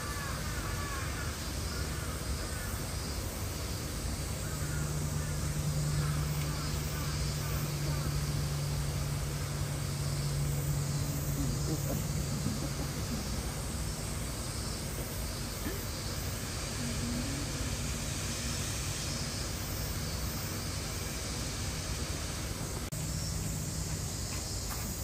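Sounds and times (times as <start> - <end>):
even hiss: 0.0 - 25.0.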